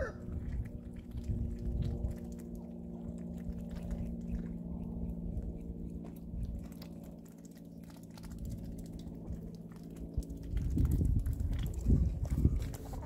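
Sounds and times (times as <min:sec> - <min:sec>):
ducks dabbling in mud: 0:00.0 - 0:13.0
low hum: 0:00.0 - 0:13.0.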